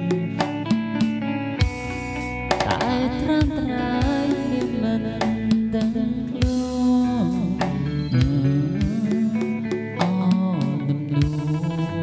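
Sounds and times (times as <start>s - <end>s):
bending lead melody: 0.0s - 12.0s.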